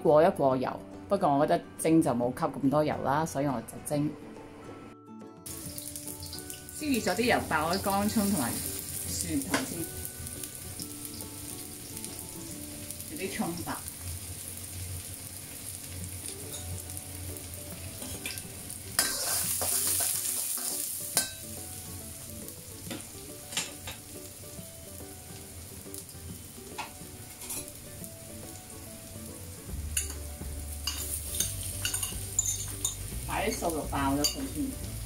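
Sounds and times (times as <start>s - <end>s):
aromatics sizzling in hot oil: 5.4s - 35.0s.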